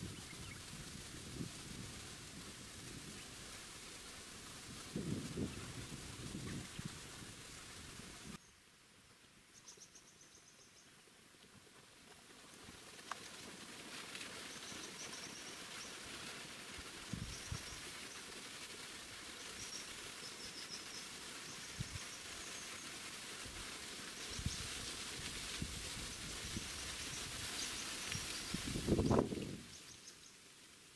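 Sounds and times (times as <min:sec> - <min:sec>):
steady forest hiss: 0:00.0 - 0:30.9.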